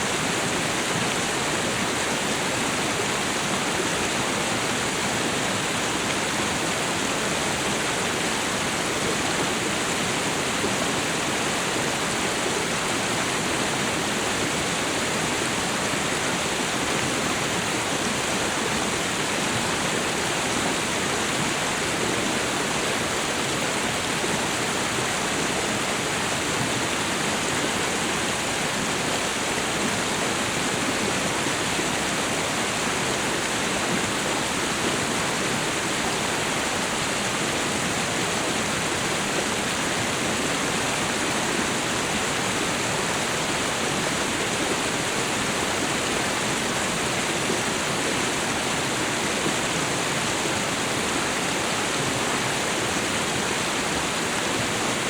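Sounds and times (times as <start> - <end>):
waterfall and river rushing: 0.0 - 55.0.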